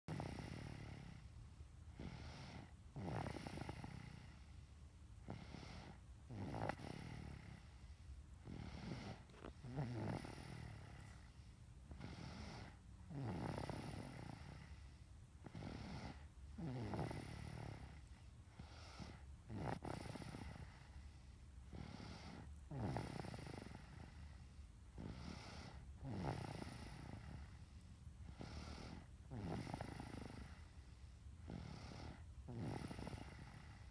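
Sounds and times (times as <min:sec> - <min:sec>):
snoring: 0:00.1 - 0:01.3, 0:01.9 - 0:04.6, 0:05.2 - 0:33.9.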